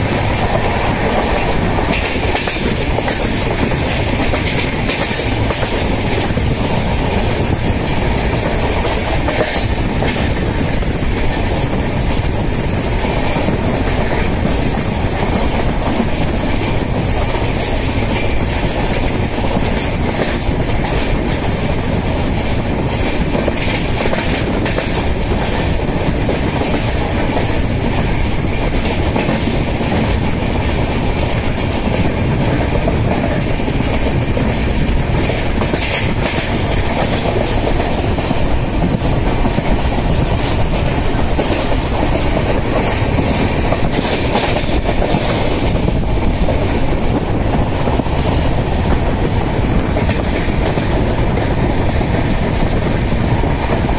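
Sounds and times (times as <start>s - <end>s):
wheels clacking over rail joints: 0.0s - 51.8s
rushing air: 0.0s - 53.9s
train wheels rumbling on rail: 0.0s - 53.9s.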